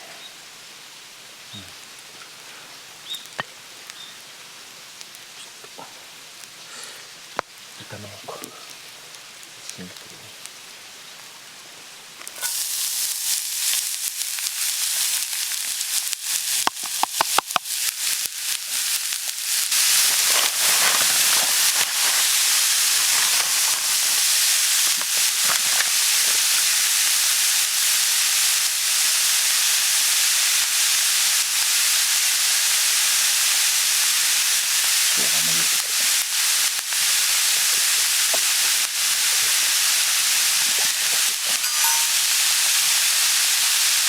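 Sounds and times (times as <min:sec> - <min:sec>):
food sizzling on a griddle: 0:00.0 - 0:44.0.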